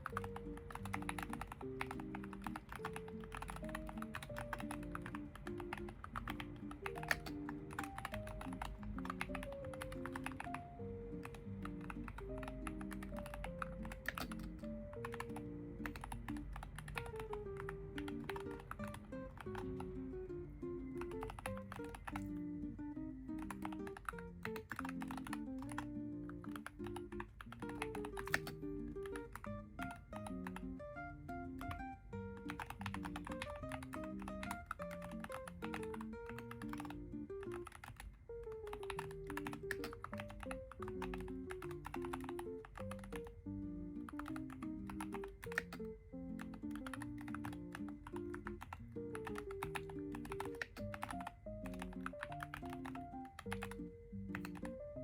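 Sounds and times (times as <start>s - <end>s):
keyboard typing: 0.0s - 55.0s
music with plucked melody: 0.0s - 55.0s.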